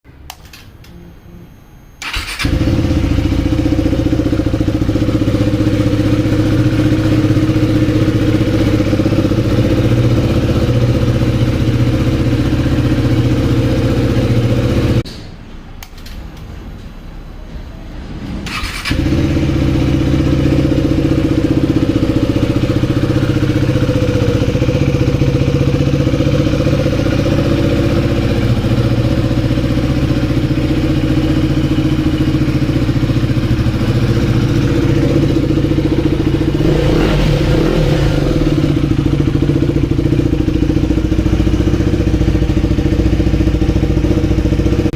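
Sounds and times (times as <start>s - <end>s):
motorcycle engine idling: 2.0s - 15.0s, 18.4s - 44.9s.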